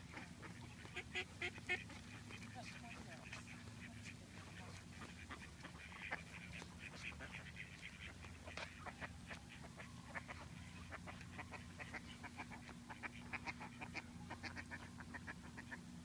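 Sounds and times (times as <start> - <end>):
ducks quacking softly: 0.0 - 16.0.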